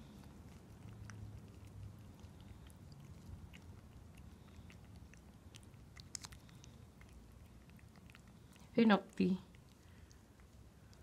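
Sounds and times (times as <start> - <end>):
cat licking and chewing: 0.0 - 11.0.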